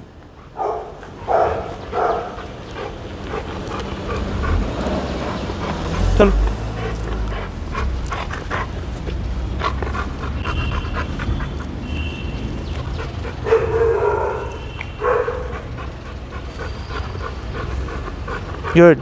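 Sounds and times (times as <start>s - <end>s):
dog vocalising: 0.6s - 11.9s, 12.7s - 19.0s.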